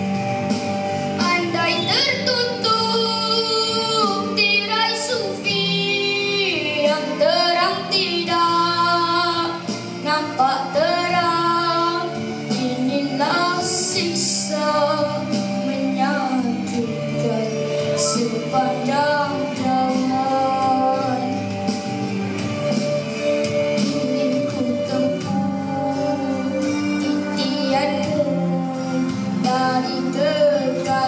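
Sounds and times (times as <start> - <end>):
instrumental accompaniment: 0.0 - 31.0
boy singing into a microphone: 1.1 - 21.7, 23.8 - 31.0.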